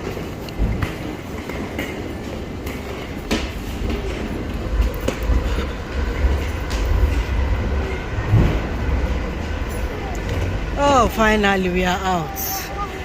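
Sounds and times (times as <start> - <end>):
train rumbling on rails: 0.0 - 13.0
wheels clattering: 0.0 - 13.0.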